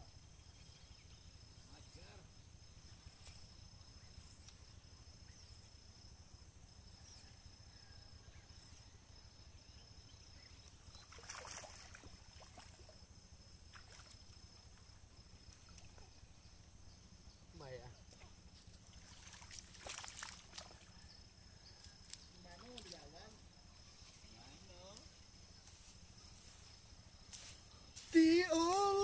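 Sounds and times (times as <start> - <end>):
faint background hum and hiss: 0.0 - 29.0.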